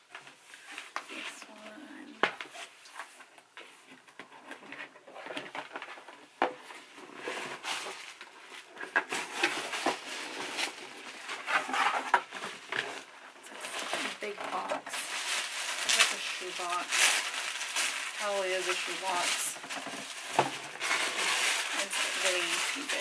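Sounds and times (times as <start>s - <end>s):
wrapping paper rustling: 0.6s - 23.0s.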